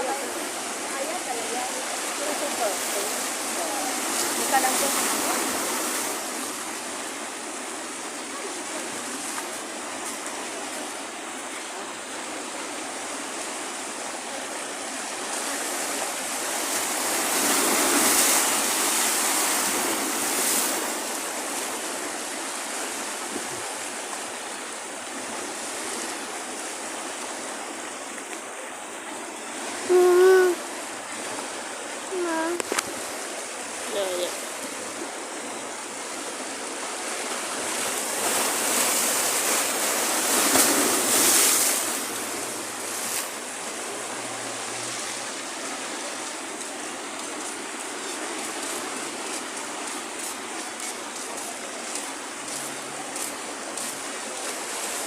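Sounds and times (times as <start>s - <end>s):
sea surf washing in: 0.0s - 55.0s.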